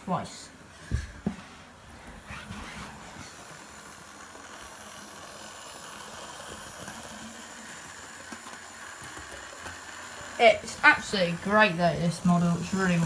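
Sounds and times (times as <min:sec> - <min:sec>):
model train motor whirring: 0:01.9 - 0:13.0.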